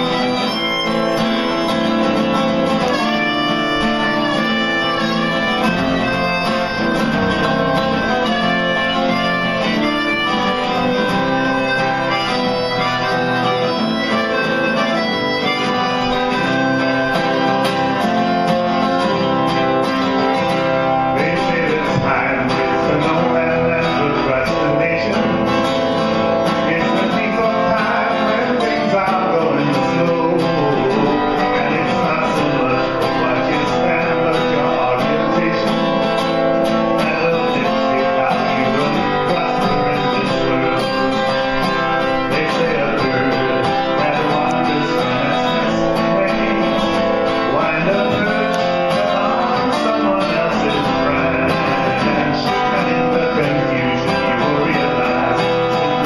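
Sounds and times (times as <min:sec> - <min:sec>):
acoustic guitar strumming: 0:00.0 - 0:56.0
harmonica: 0:00.0 - 0:56.0.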